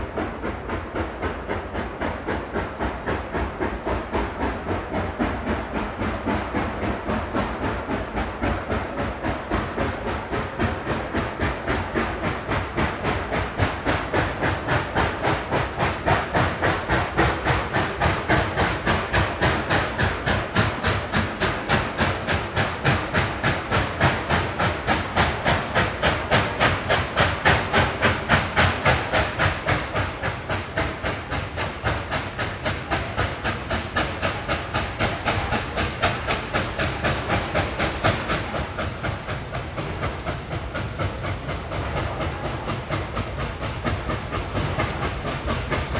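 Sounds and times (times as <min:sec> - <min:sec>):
steam locomotive chuffing: 0:00.0 - 0:45.9.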